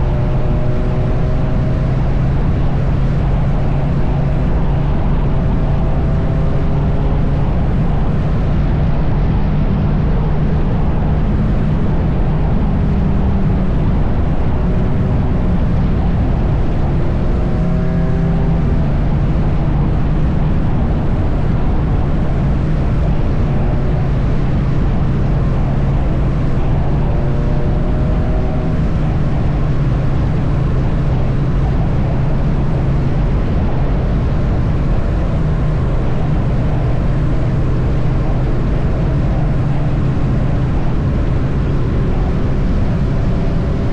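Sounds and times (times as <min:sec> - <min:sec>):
motorcycle engine cruising: 0:00.0 - 0:43.9
road noise: 0:00.0 - 0:43.9
wind rush: 0:00.0 - 0:43.9.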